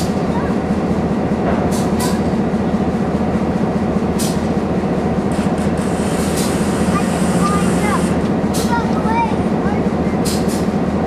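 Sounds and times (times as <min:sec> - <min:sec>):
bridge machinery rumbling: 0:00.0 - 0:11.0.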